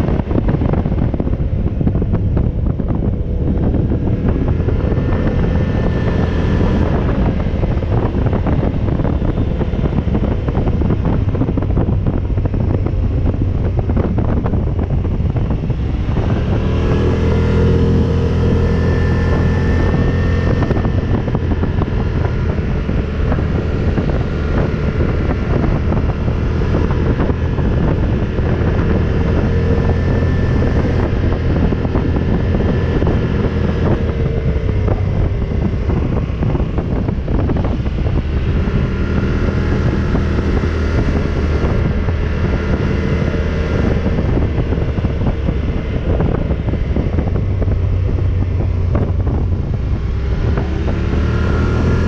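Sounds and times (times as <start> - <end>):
atv engine running: 0.0 - 52.0
wind noise on microphone: 0.0 - 52.0.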